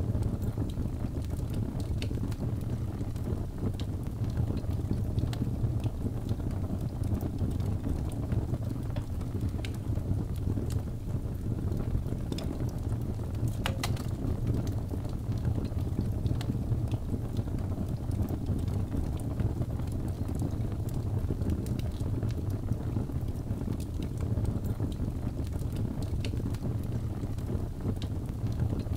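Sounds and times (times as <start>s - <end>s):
fire crackling and popping: 0.0s - 28.9s
low rumble of flames: 0.0s - 28.9s.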